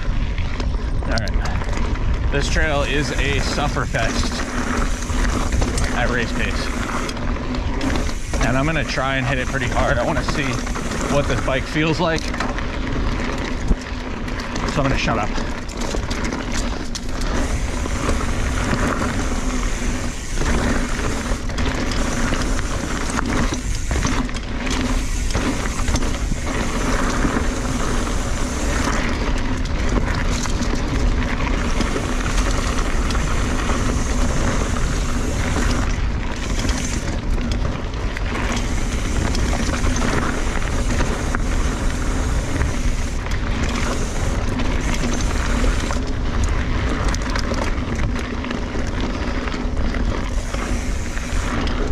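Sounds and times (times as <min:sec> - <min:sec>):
wind on microphone: 0:00.0 - 0:13.8, 0:17.0 - 0:48.2
bike rattle: 0:00.0 - 0:51.9
bike tyre roar on dirt: 0:00.0 - 0:51.9.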